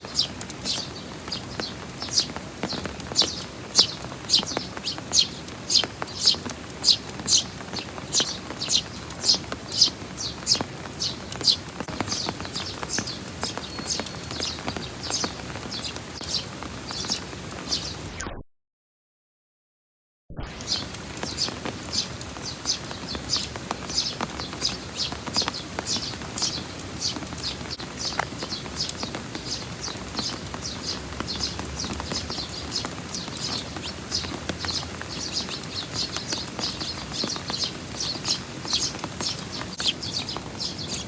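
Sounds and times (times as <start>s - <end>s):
heavy rain hiss: 0.0s - 18.1s, 20.6s - 41.0s
sparrow chirping: 0.1s - 18.0s, 20.7s - 41.0s.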